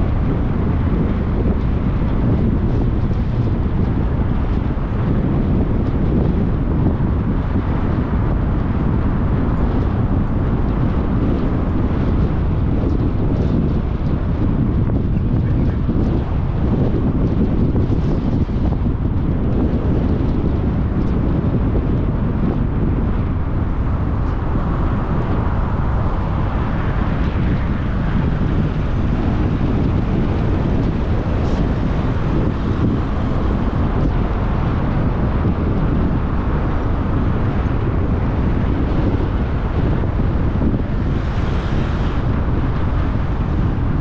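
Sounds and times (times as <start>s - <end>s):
road and tyre noise: 0.0s - 44.0s
wind buffeting microphone: 0.0s - 44.0s.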